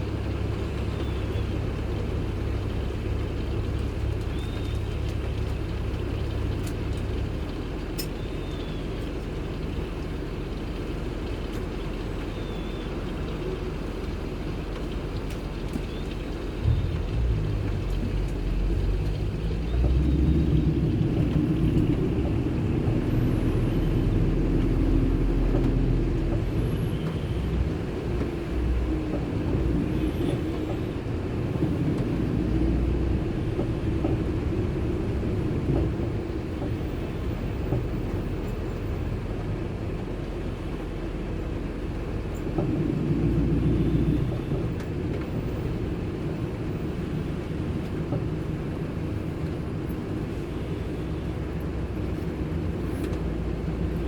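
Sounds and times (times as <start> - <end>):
car driving rumble inside cabin: 0.0 - 54.0.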